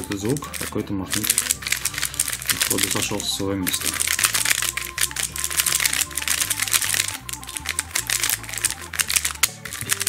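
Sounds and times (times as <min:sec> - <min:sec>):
puzzle cube plastic clicking: 0:00.0 - 0:10.0.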